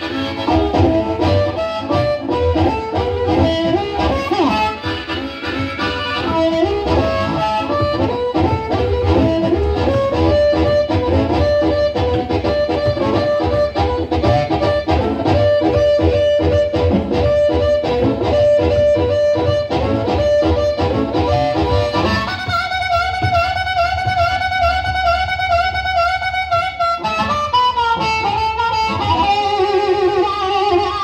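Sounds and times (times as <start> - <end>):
live band instrumental: 0.0 - 31.0.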